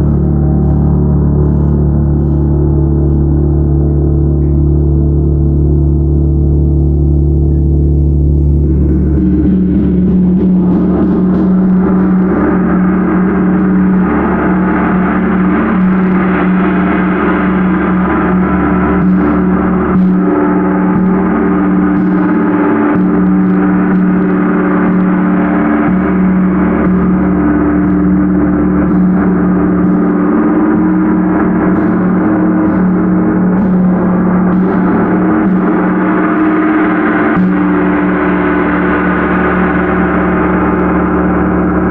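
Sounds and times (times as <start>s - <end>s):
large gong ringing: 0.0s - 41.9s
low hum: 0.0s - 41.9s.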